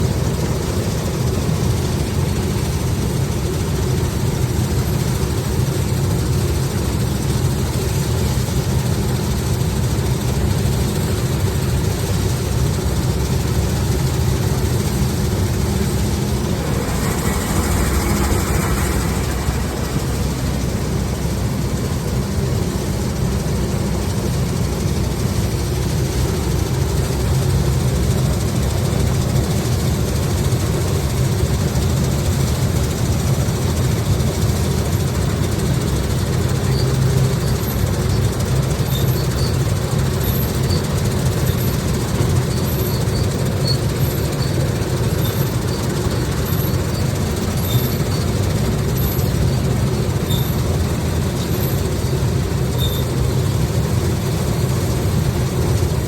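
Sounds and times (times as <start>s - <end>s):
heavy engine humming: 0.0s - 56.0s.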